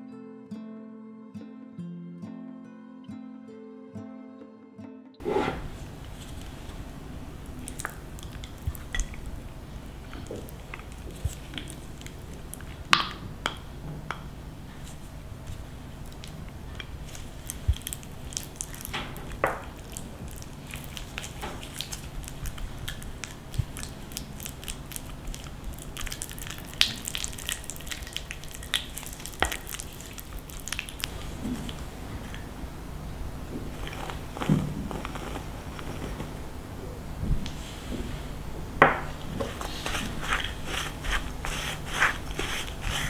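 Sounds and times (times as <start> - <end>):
soft squishing: 5.2 - 38.4, 39.0 - 43.0
low steady hum: 5.2 - 43.0.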